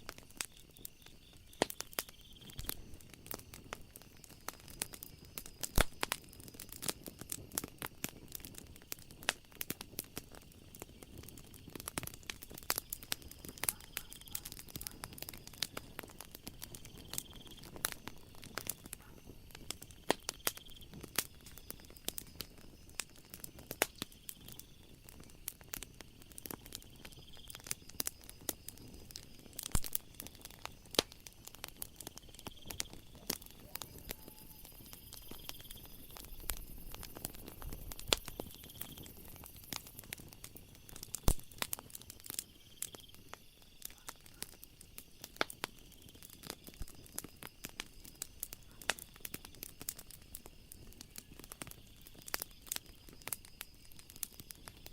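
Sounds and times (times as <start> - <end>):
crickets chirping: 0.0 - 54.9
wood fire crackling: 0.0 - 54.9.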